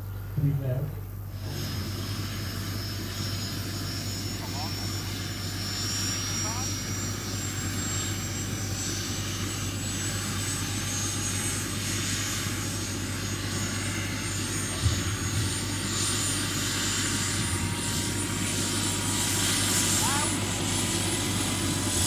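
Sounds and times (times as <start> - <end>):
turbine engine whine: 0.0 - 22.0.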